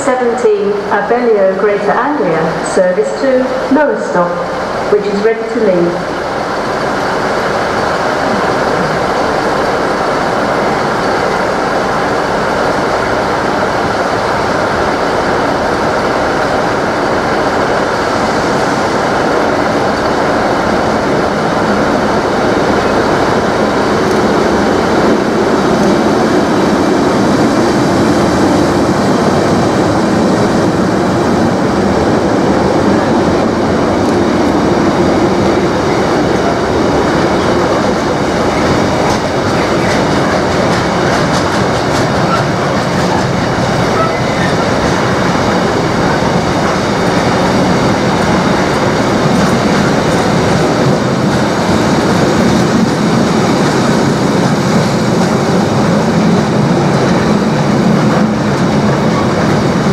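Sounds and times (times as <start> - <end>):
freight train rolling rumble: 0.0 - 59.9
wagons rolling drone: 4.6 - 59.9.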